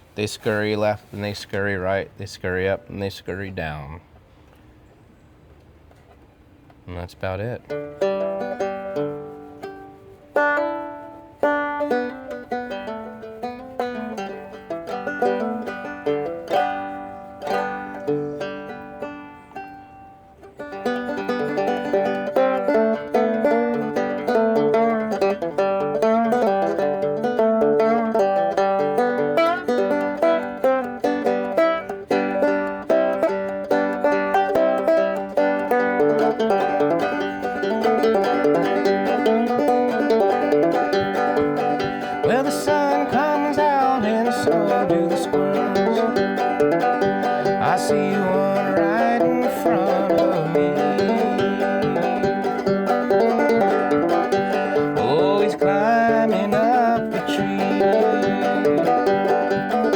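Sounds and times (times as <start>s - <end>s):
banjo playing: 7.4s - 59.9s.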